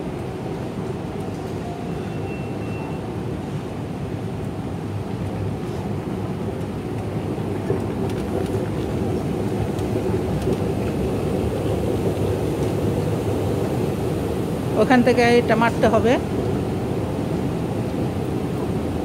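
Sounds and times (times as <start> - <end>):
underground train rumble: 0.0 - 19.0.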